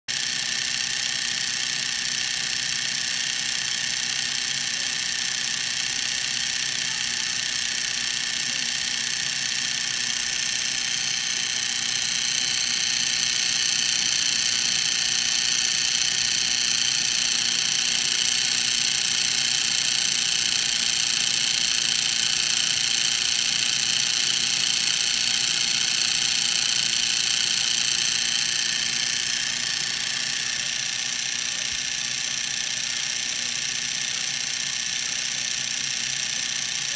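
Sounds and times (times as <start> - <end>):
film projector whirring with whine: 0.1 - 36.9.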